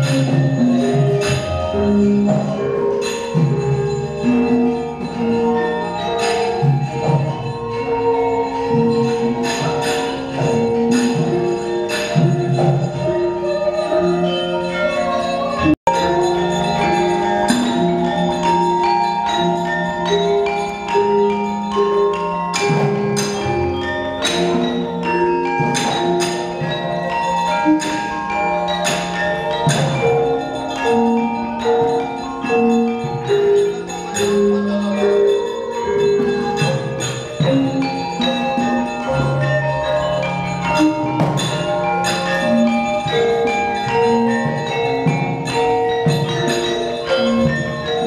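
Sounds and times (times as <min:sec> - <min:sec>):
gamelan ensemble playing: 0:00.0 - 0:48.0
gongs ringing: 0:00.0 - 0:48.0.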